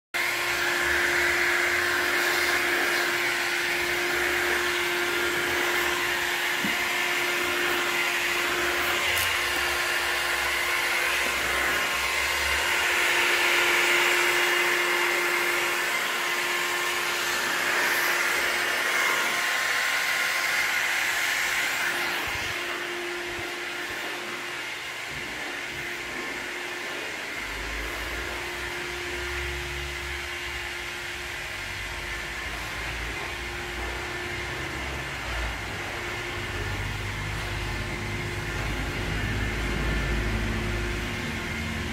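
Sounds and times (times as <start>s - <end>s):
heat gun blowing: 0.2s - 41.9s.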